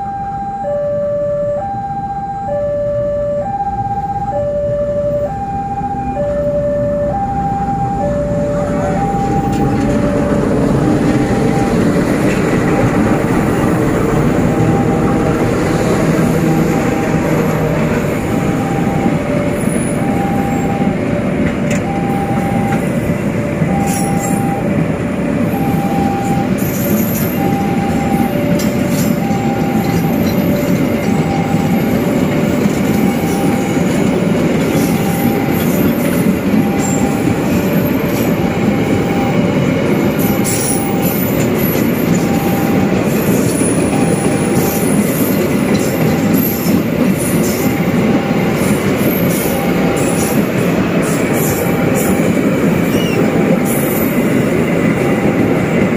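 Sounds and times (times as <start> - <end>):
level-crossing alarm two-tone: 0.0 - 55.9
train wheels on rails: 5.2 - 55.9.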